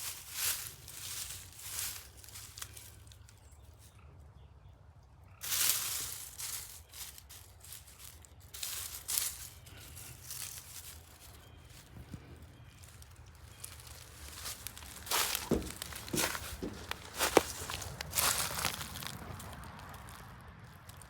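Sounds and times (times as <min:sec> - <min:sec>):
leaves and stems rustling: 0:00.0 - 0:03.5, 0:05.4 - 0:20.2.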